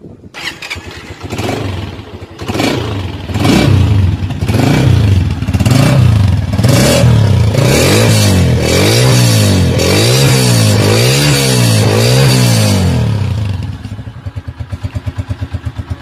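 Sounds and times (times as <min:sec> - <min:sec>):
motorcycle engine revving: 0:00.2 - 0:16.0.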